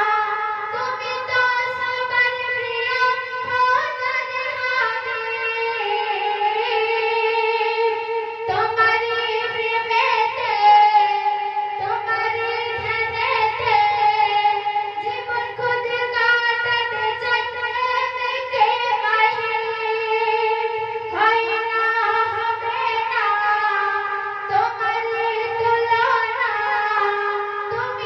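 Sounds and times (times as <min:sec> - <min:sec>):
woman singing into a microphone: 0:00.0 - 0:28.0.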